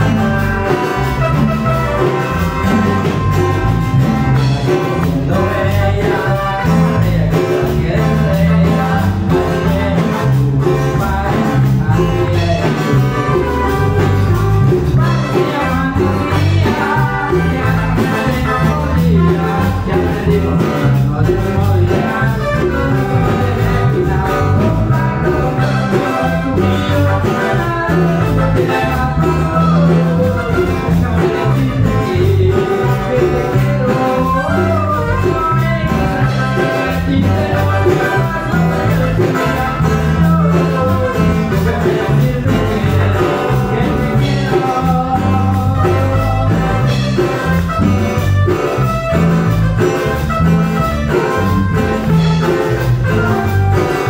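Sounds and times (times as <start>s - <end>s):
live band with keyboards and drums: 0.0s - 54.0s.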